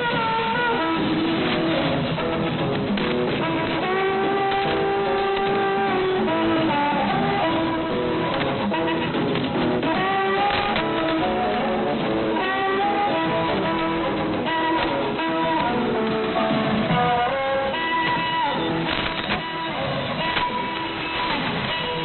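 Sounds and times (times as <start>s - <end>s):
music through shortwave radio: 0.0s - 22.0s.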